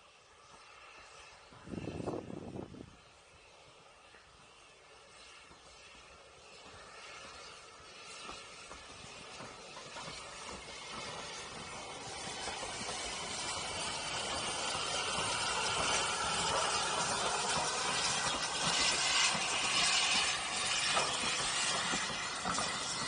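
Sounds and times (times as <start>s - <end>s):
steam engine hissing past: 0.0s - 23.0s.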